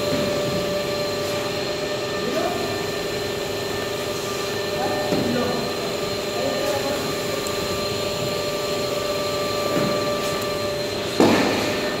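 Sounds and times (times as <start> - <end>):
cooling fans whirring: 0.0 - 12.0.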